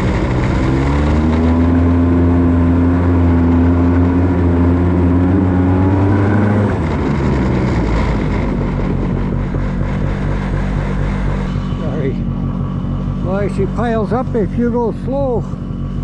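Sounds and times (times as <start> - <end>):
small engine running hard: 0.0 - 16.0.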